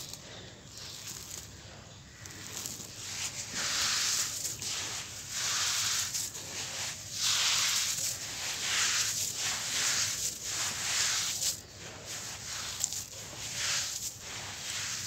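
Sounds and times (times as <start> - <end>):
hands crumbling gritty sand mix: 0.0 - 15.0.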